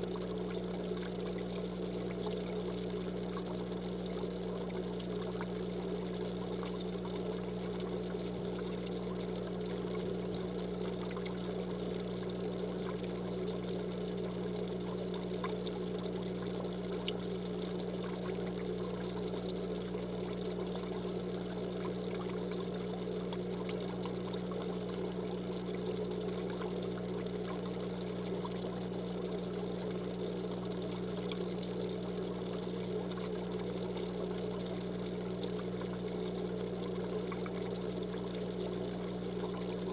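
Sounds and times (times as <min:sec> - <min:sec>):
filter humming: 0:00.0 - 0:39.9
water trickling and splashing: 0:00.0 - 0:39.9.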